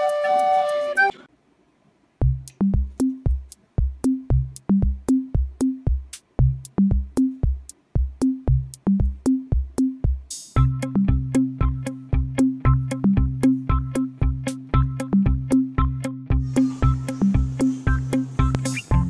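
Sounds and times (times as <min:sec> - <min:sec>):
electronic drum-machine beat: 0:02.2 - 0:19.0.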